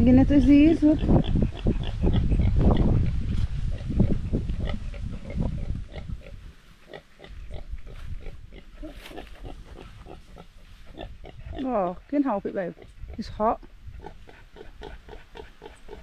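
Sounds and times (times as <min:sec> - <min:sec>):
pig grunting: 0:00.7 - 0:12.0, 0:14.0 - 0:16.0.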